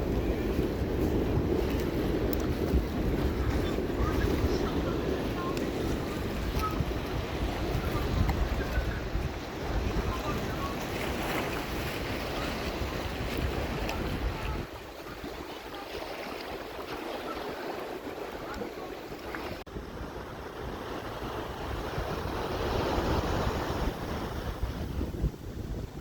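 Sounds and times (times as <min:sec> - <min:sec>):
sea waves washing in: 0:00.0 - 0:26.0
wind buffeting microphone: 0:00.0 - 0:26.0.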